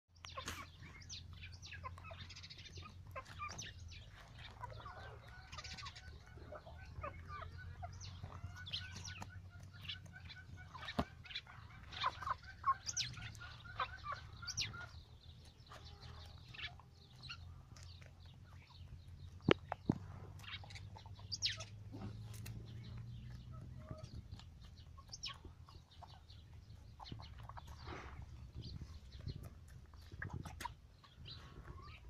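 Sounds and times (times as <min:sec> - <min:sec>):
hen clucking softly: 0:00.2 - 0:32.0.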